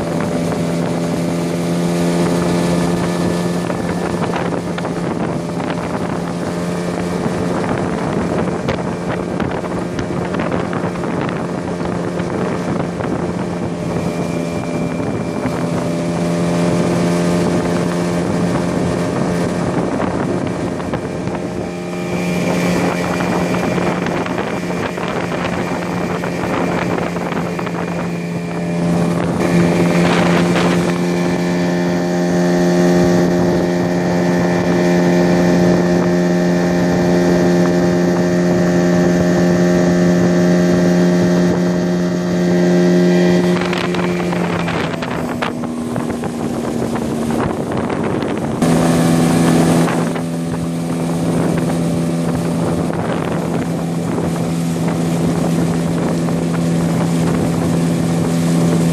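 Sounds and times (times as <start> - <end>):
outboard motor running: 0.0 - 58.9
wind buffeting microphone: 0.0 - 58.9.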